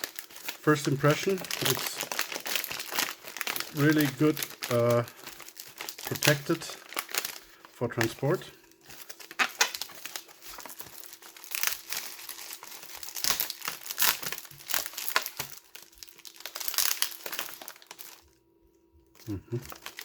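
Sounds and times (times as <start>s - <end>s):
packaging crinkling: 0.0s - 18.4s, 19.1s - 20.0s
faint steady hum: 0.0s - 20.0s.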